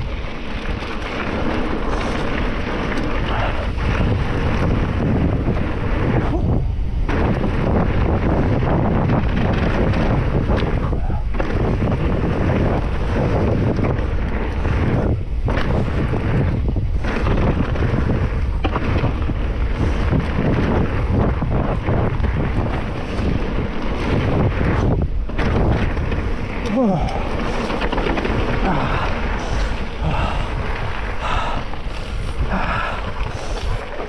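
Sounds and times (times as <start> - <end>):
wind noise on microphone: 0.0 - 34.0.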